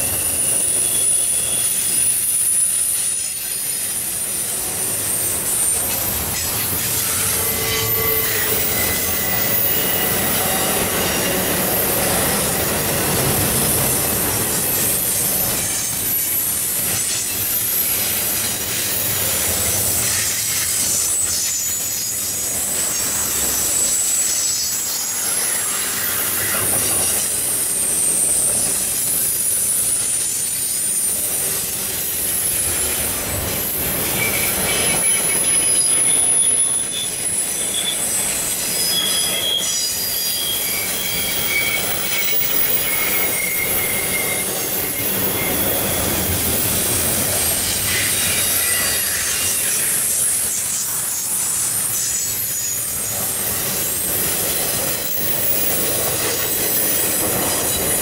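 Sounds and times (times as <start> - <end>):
high-pitched wheel squeal: 0.0 - 58.0
train wheels rumbling on rail: 0.0 - 58.0.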